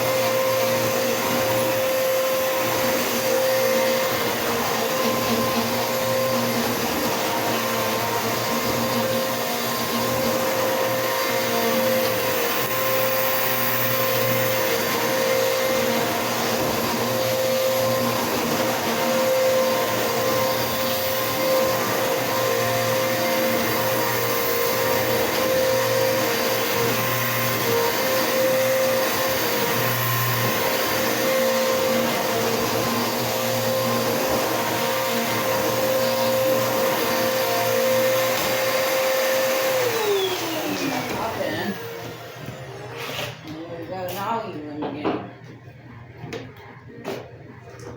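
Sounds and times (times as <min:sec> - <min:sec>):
vacuum motor winding down: 0:00.0 - 0:44.0
vacuum cleaner motor whining: 0:00.0 - 0:47.9.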